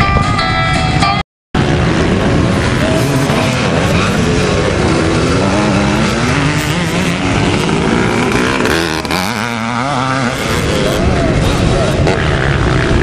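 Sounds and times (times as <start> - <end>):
motocross motorcycles revving: 1.6 - 13.0.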